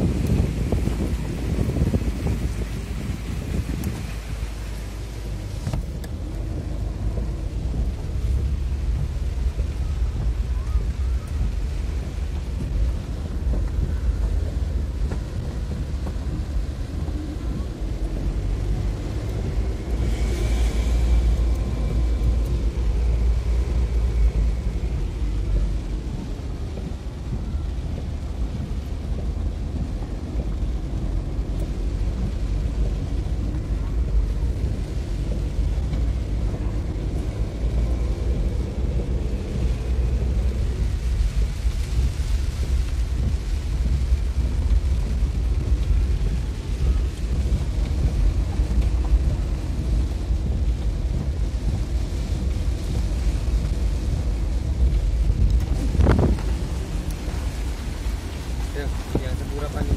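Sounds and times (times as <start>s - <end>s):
car rumble: 0.0s - 59.9s
heavy rain: 0.0s - 59.9s.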